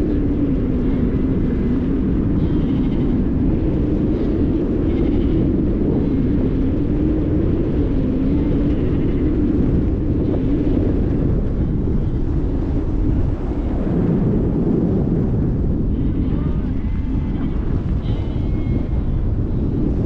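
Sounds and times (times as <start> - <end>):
low wavering hum: 0.0 - 20.0
wind buffeting microphone: 0.0 - 20.0.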